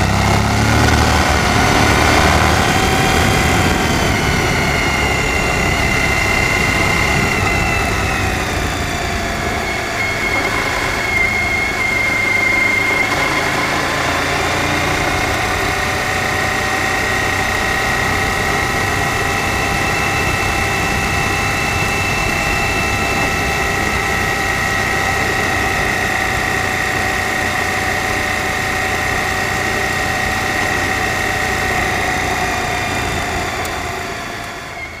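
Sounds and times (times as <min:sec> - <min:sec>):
motorcycle engine running: 0:00.0 - 0:35.0
steady high whine: 0:00.0 - 0:35.0.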